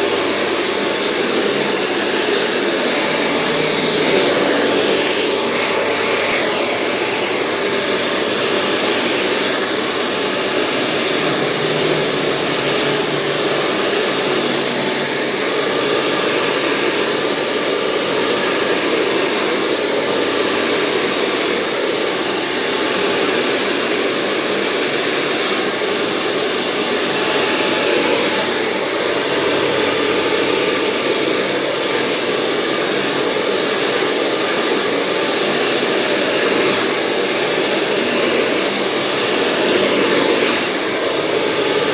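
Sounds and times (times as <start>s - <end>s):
hair dryer running: 0.0s - 41.9s.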